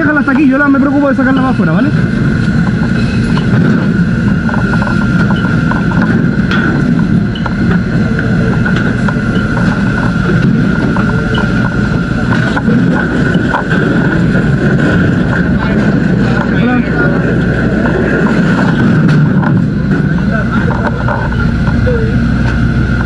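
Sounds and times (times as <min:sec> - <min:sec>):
loud engine drone with whine: 0:00.0 - 0:23.0.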